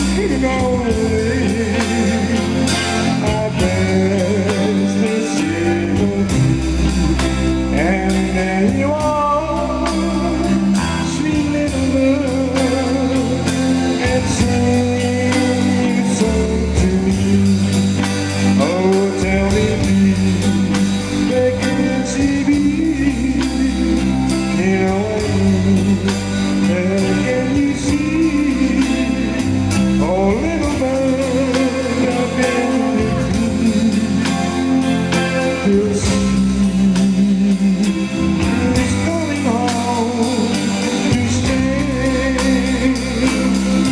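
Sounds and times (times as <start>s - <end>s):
bass: 0.0s - 43.9s
drums: 0.0s - 43.9s
guitars: 0.0s - 43.9s.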